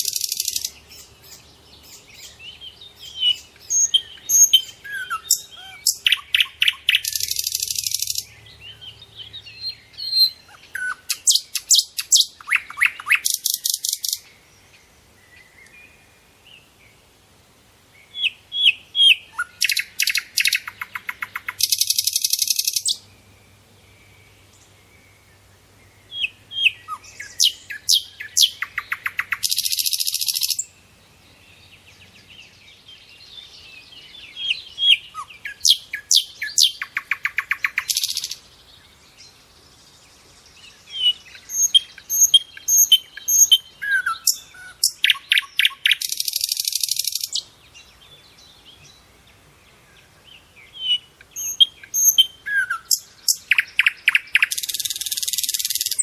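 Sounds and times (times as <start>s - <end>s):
songbird trilling song: 0.0s - 17.0s, 17.9s - 56.0s
faint bird chirping: 0.0s - 56.0s.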